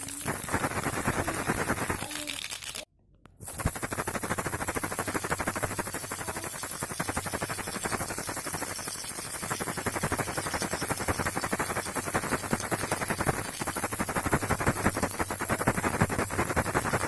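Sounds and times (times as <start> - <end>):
baby rattle shaking: 0.0 - 17.0.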